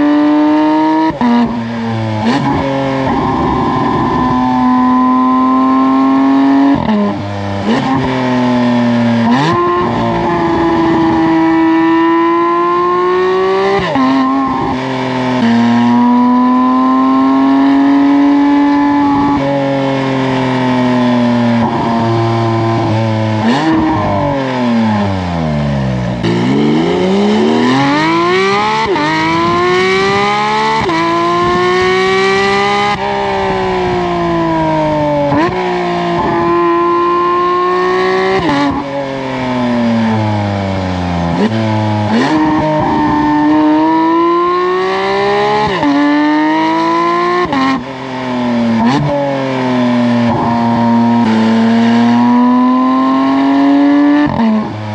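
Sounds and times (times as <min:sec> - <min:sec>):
sports car engine revving: 0:00.0 - 0:54.9.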